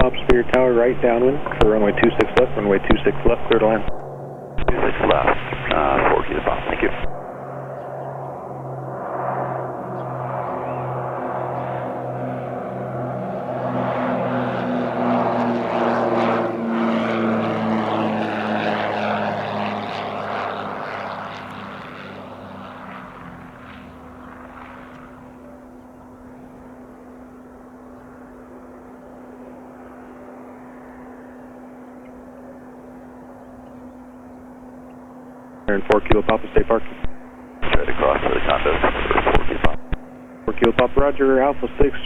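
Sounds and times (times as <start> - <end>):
propeller plane engines droning: 0.0 - 42.0.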